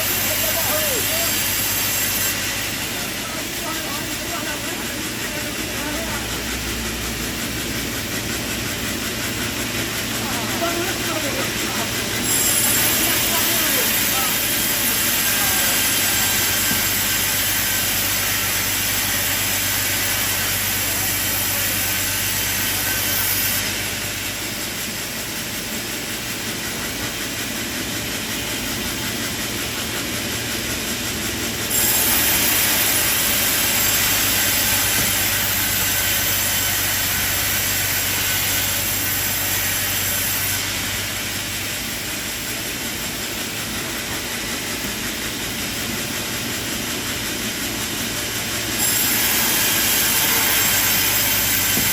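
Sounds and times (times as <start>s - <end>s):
sawmill machinery hum and hiss: 0.0s - 51.9s.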